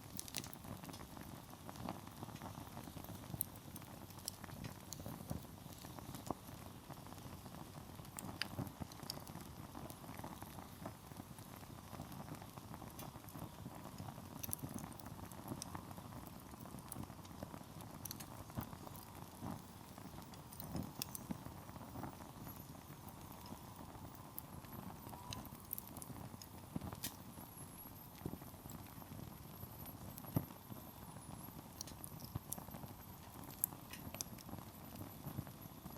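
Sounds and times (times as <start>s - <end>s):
campfire crackling and popping: 0.0s - 35.9s
low rush of flame: 0.0s - 35.9s.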